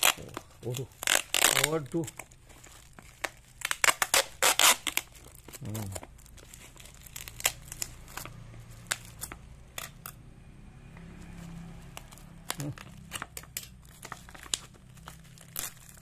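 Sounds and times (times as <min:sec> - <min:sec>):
plastic wrapping crackling: 0:00.0 - 0:10.2, 0:11.4 - 0:16.0.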